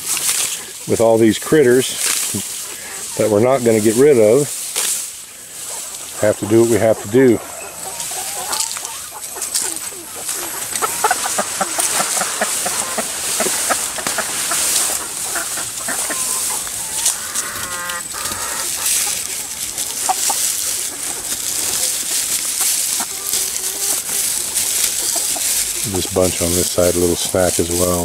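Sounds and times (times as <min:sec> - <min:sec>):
chickens clucking: 0:00.0 - 0:28.0
rustling of grass and leaves: 0:00.0 - 0:28.0.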